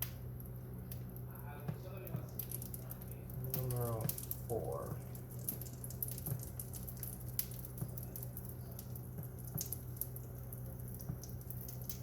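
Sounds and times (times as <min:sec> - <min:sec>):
batter sizzling on griddle: 0:00.0 - 0:12.0.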